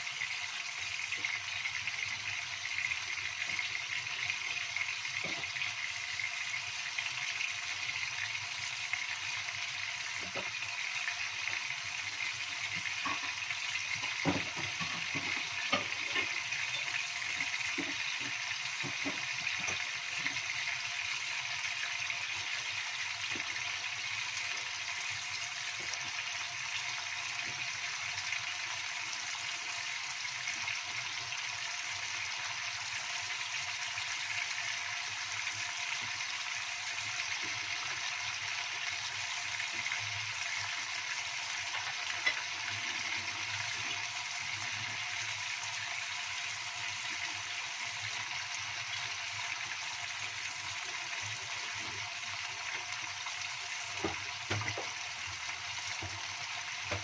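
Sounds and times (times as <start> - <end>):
fish sizzling in oil: 0.0 - 57.0.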